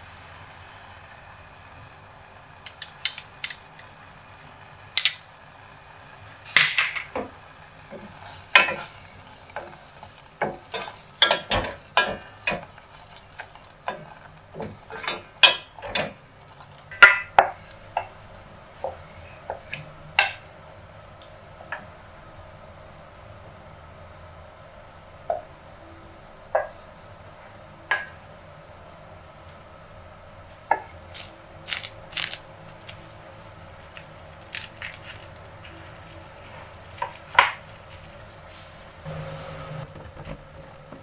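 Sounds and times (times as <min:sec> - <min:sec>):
faint simmering: 0:00.0 - 0:39.9.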